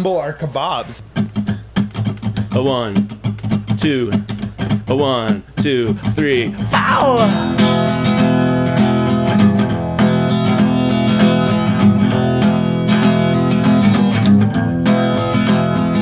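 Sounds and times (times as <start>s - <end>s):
acoustic guitar strumming: 1.0s - 16.0s.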